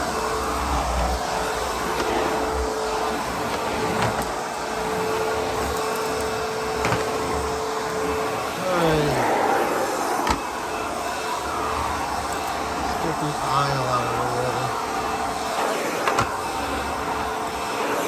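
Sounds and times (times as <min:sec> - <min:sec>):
falling whine: 0:00.0 - 0:18.0
vacuum cleaner running: 0:00.0 - 0:18.0.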